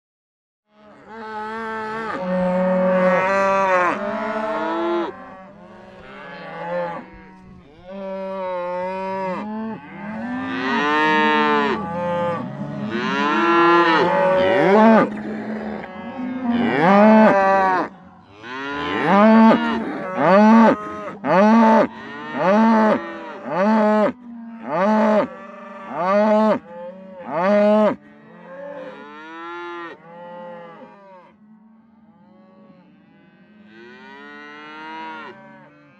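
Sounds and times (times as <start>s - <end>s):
cows mooing: 0.7s - 31.4s, 32.2s - 35.9s.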